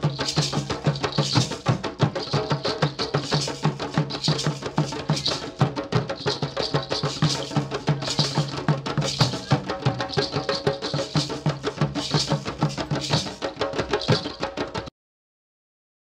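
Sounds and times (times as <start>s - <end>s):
fast percussion beat: 0.0s - 14.9s.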